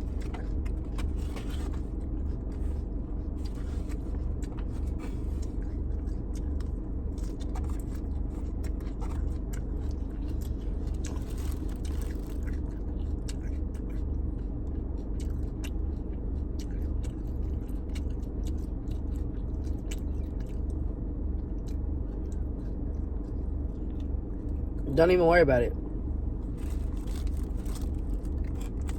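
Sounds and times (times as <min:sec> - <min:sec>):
chewing and biting food: 0:00.0 - 0:24.8, 0:26.0 - 0:28.9
steady low rumble: 0:00.0 - 0:28.9.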